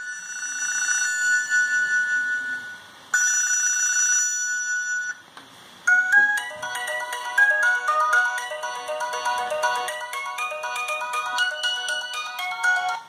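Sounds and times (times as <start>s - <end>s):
electronic phone ringtone: 0.0s - 5.2s, 5.9s - 13.0s.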